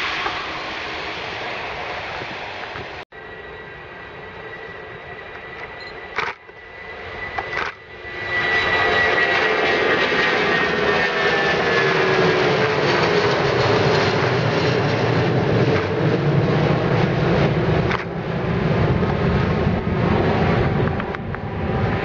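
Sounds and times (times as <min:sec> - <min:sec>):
jet engine roar: 0:00.0 - 0:22.0
jet engine whine: 0:00.0 - 0:22.0.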